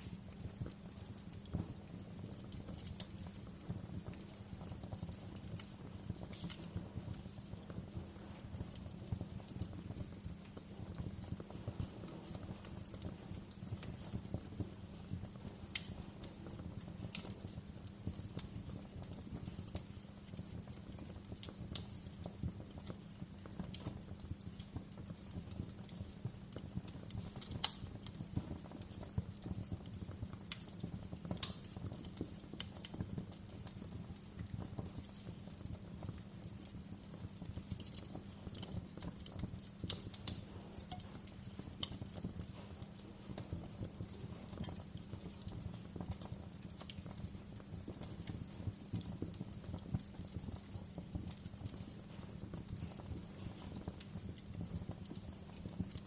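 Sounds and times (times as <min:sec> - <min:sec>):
sharp fire pops: 0:00.0 - 0:56.0
wood fire crackling: 0:00.0 - 0:56.0.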